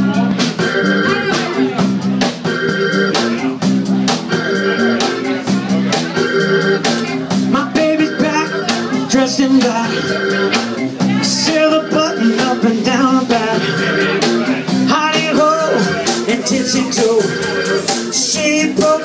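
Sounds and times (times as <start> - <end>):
drum kit: 0.0 - 19.0
electric bass: 0.0 - 19.0
keyboards: 0.0 - 19.0.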